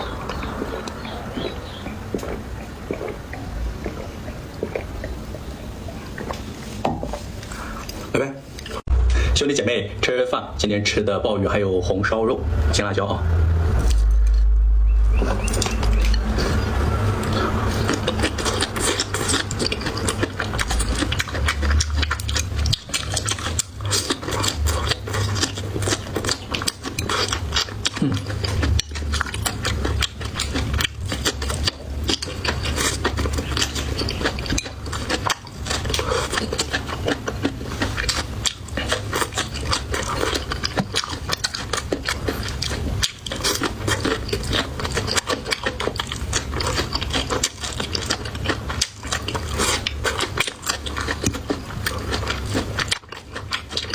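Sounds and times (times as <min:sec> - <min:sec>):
person chewing food: 0:00.0 - 0:09.2, 0:13.7 - 0:53.9.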